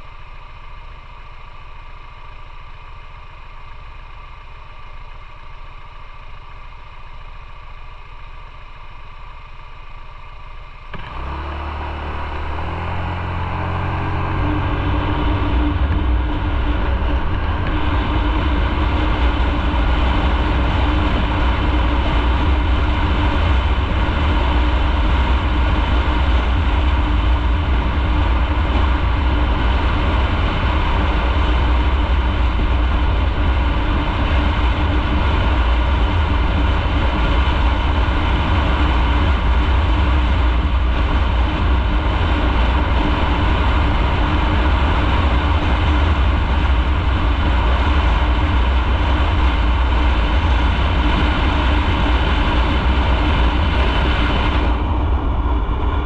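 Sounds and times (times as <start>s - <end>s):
motorcycle engine running evenly: 0.0s - 56.0s
wind and road noise: 9.8s - 56.0s.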